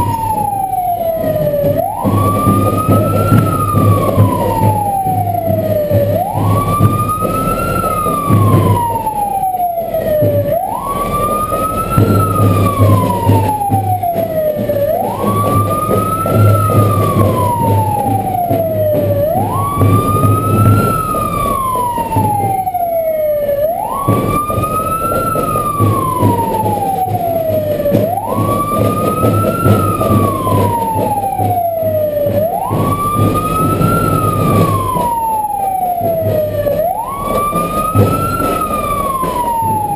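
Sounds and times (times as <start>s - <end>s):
engine and road noise: 0.0s - 39.9s
wailing siren: 0.0s - 39.9s.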